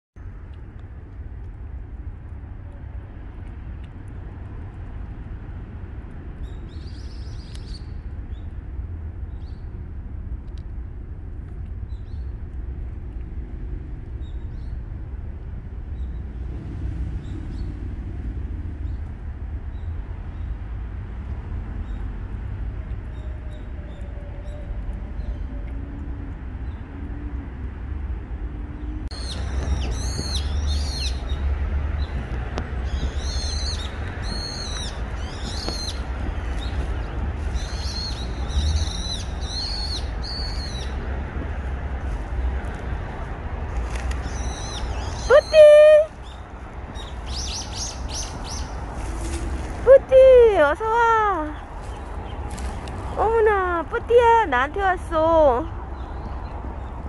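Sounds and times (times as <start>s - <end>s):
low rumble of distant traffic: 0.2s - 57.0s.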